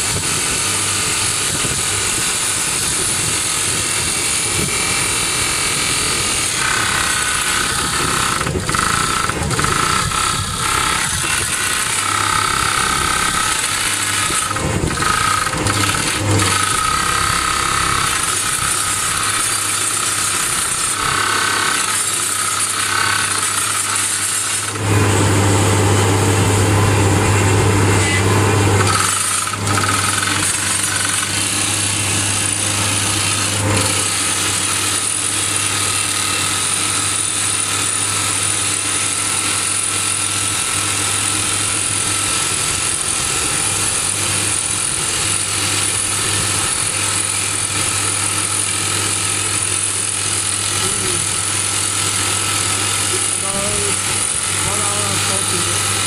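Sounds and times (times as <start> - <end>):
hydraulic drill hammering rock: 0.0 - 56.0
rig engine running: 0.0 - 56.0.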